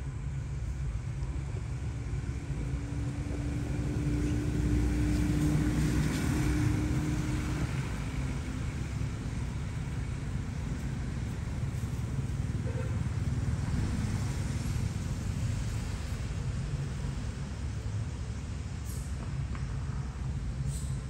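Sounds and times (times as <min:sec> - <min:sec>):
distant vehicle engine: 0:00.1 - 0:21.0.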